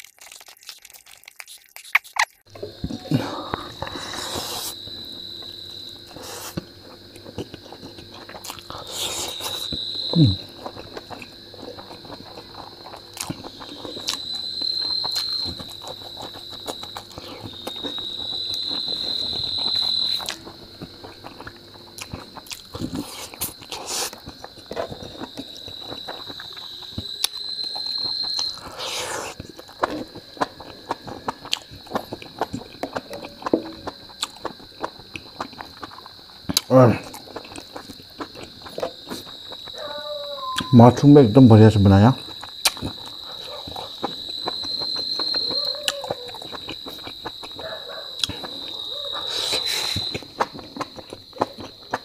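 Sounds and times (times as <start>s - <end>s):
chewing and crunching: 0.0s - 52.0s
high insect trill: 2.5s - 52.0s.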